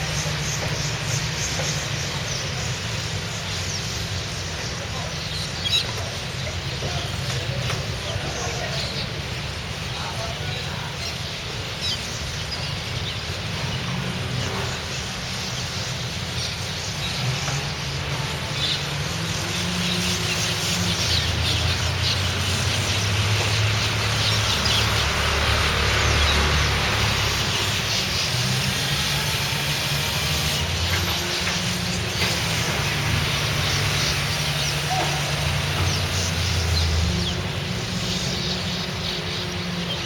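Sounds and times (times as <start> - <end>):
birds chirping and twittering: 0.0 - 40.0.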